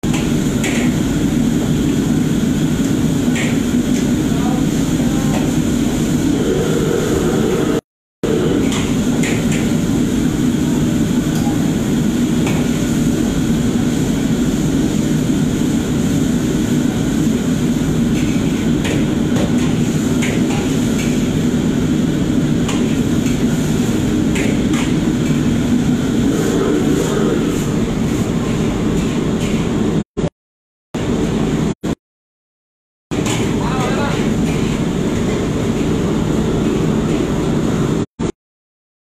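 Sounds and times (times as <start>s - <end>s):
wok burners and extraction hood: 0.0s - 30.3s, 31.0s - 32.0s, 33.1s - 38.1s.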